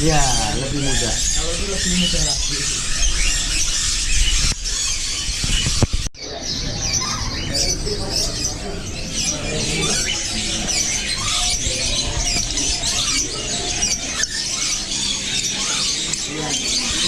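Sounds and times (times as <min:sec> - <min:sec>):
parrots squawking and screeching: 0:00.0 - 0:17.0.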